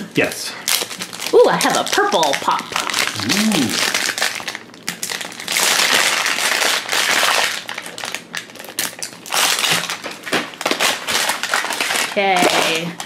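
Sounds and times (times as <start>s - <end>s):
plastic wrapper crinkling: 0.7s - 13.0s.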